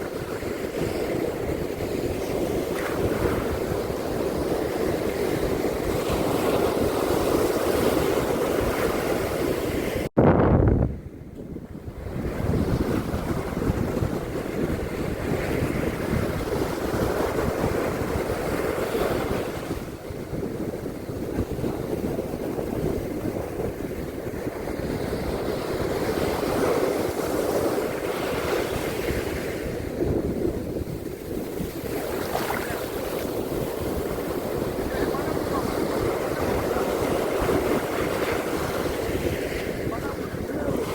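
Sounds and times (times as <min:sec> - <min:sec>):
surf washing onto beach: 0:00.0 - 0:10.1, 0:11.7 - 0:40.9
wind rumbling on microphone: 0:00.0 - 0:40.9.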